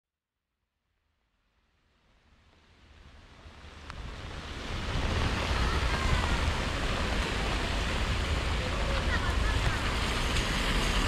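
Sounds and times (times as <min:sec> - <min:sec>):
steady rain hiss: 0:00.9 - 0:11.0.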